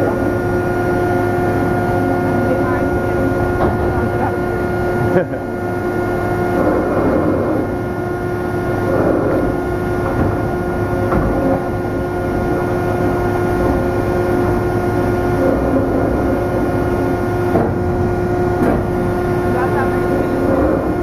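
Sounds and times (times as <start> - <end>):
industrial machinery hum: 0.0 - 21.0.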